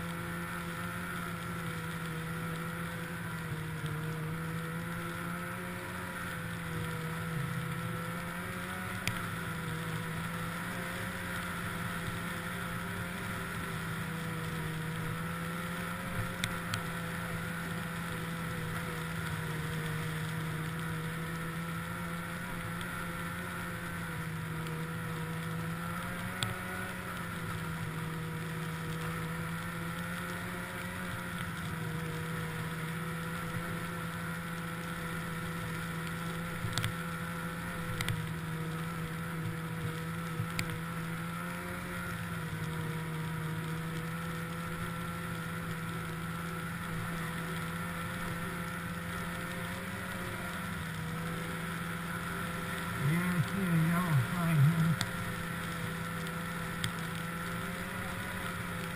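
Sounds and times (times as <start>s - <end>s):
snowmobile engine running: 0.0s - 58.9s.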